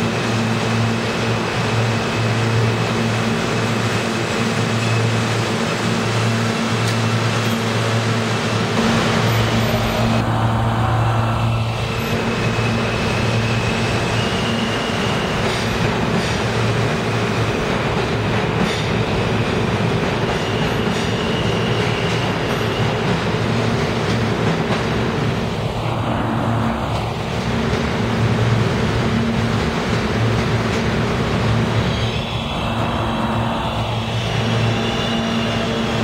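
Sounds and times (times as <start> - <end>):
rumble of wheels on rail: 0.0 - 36.0.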